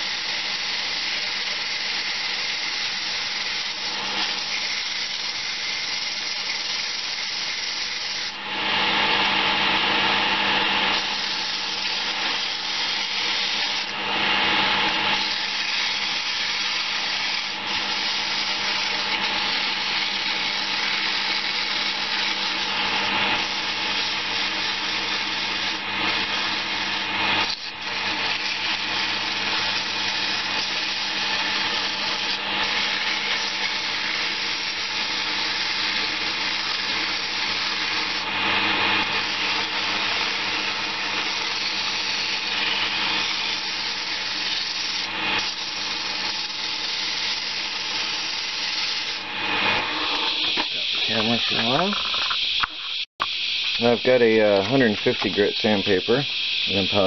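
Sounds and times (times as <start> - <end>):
sandpaper rasping on spinning wood: 0.0 - 52.2, 53.7 - 57.0
wood lathe humming: 0.0 - 57.0.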